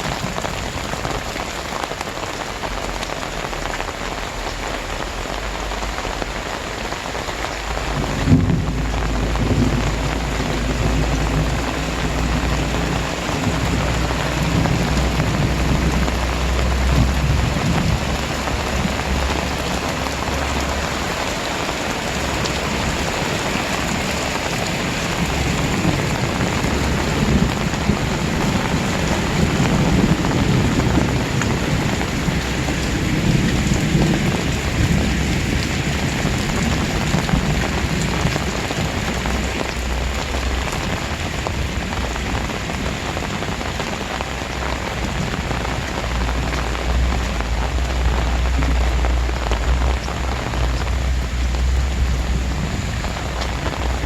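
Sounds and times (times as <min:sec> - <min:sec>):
heavy rain pouring: 0:00.0 - 0:54.0
low rumble: 0:02.8 - 0:42.1, 0:44.3 - 0:54.0.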